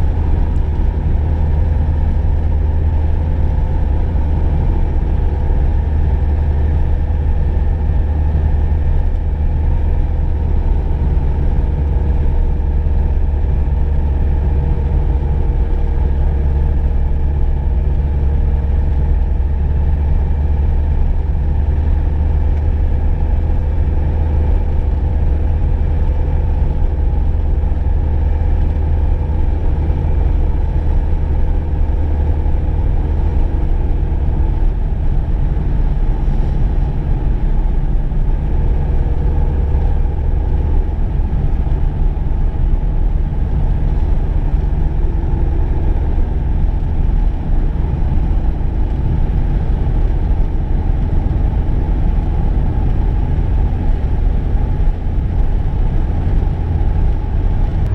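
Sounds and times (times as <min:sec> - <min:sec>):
engine and tyre rumble: 0:00.0 - 0:57.9
faint engine hum: 0:00.0 - 0:57.9.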